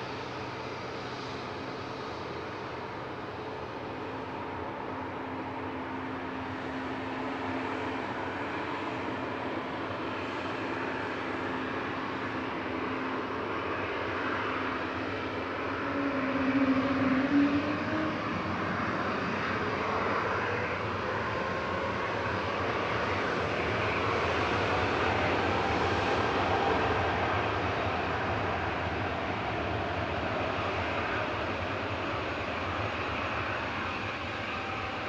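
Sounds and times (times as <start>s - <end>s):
jet engines rushing drone: 0.0s - 35.0s.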